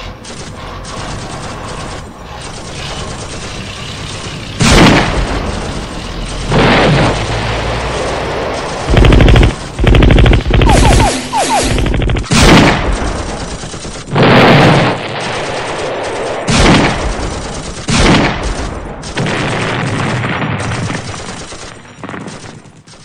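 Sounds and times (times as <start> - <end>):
heavy gunfire blasts: 0.0 - 23.0
machine-gun fire: 0.2 - 23.0.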